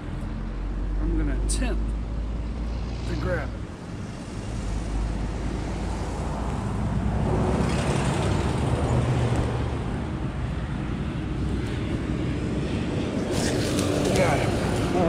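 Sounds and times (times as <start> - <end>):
road traffic hum: 0.0 - 15.0
vehicle passing close: 2.0 - 15.0.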